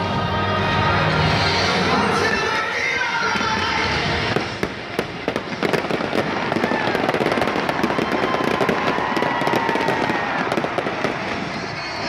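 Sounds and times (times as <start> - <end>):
fireworks crackling: 1.3 - 12.0.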